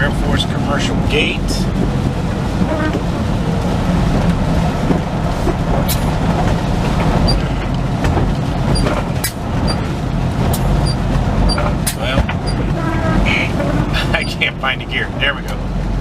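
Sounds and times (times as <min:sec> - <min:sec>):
diesel engine rumble: 0:00.0 - 0:16.0
road noise: 0:00.0 - 0:16.0.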